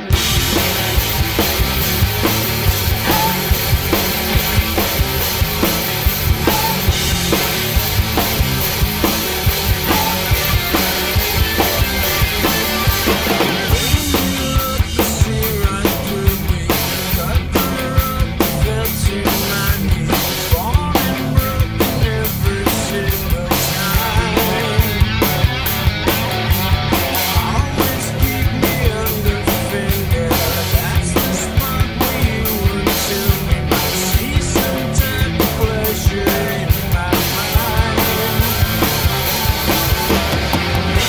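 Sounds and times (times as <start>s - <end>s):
hard rock band music: 0.0s - 41.0s
rock drum kit played hard: 0.0s - 41.0s.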